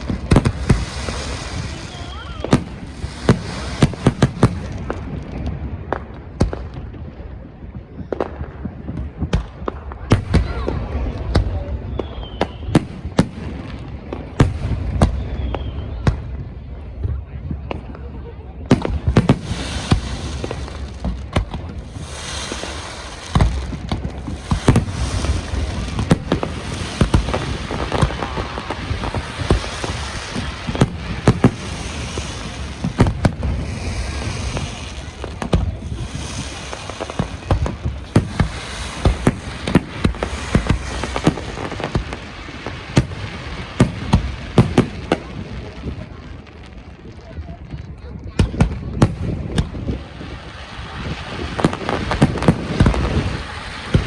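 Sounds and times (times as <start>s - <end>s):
fireworks bangs: 0.0s - 7.0s, 8.1s - 54.0s
fireworks crackling: 0.0s - 54.0s.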